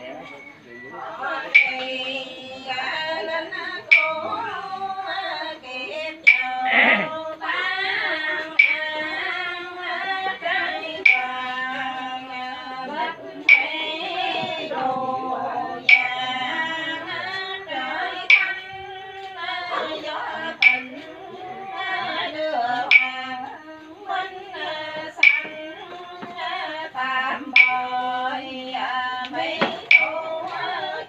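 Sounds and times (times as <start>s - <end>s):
voices chanting prayers: 0.0s - 31.0s.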